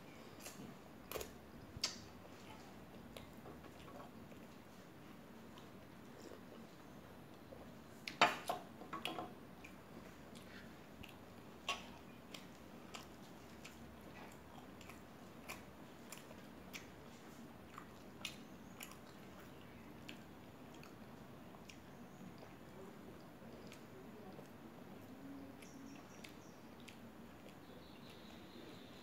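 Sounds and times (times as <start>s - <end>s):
close-up chewing: 0.2s - 29.0s.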